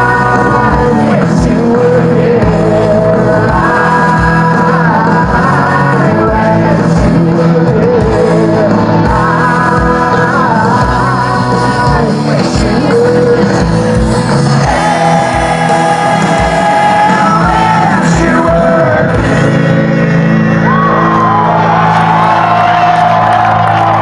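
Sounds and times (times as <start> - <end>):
man singing: 0.0 - 20.2
electric guitar: 0.0 - 24.0.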